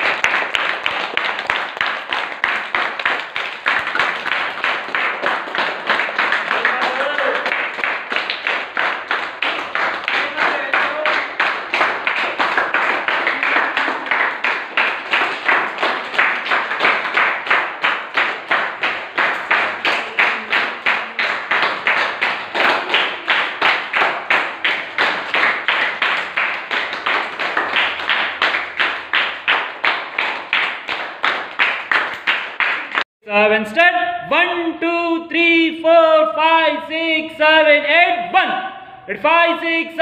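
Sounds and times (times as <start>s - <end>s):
hand clapping steady beat: 0.0s - 33.1s.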